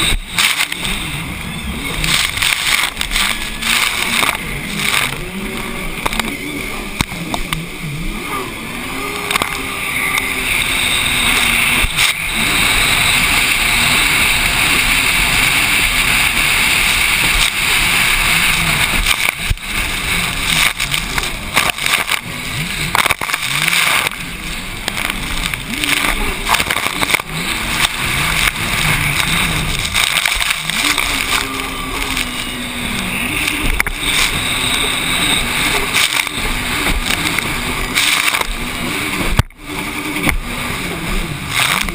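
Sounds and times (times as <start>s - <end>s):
wind and spray rushing: 0.0s - 7.7s, 9.7s - 41.9s
jet ski engine running hard: 0.0s - 41.9s.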